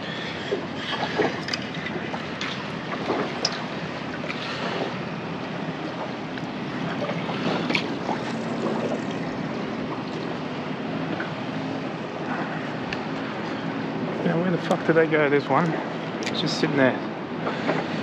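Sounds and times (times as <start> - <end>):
water lapping around boat: 0.0 - 18.0.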